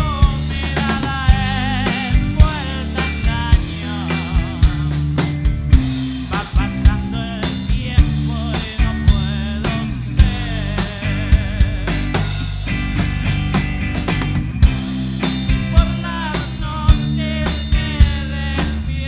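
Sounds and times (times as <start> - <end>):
drum kit hits: 0.0 - 18.8
psychedelic rock band playing: 0.0 - 19.0
sustained bass: 0.0 - 19.0.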